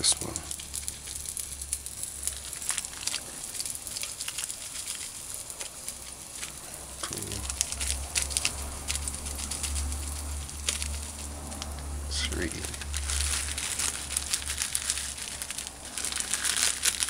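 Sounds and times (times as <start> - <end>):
curry powder sizzling in a pot: 0.0 - 17.0
steady low hum: 0.0 - 17.0.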